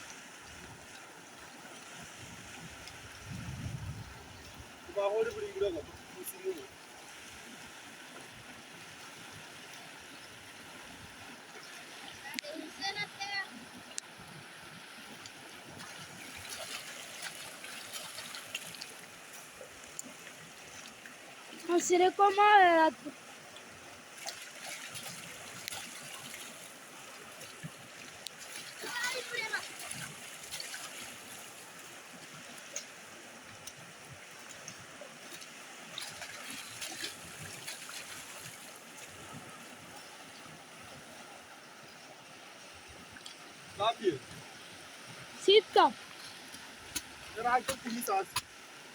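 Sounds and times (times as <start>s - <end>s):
small water drips: 0.0s - 3.4s, 4.0s - 22.3s, 22.9s - 48.8s
water trickling and splattering: 0.0s - 48.9s.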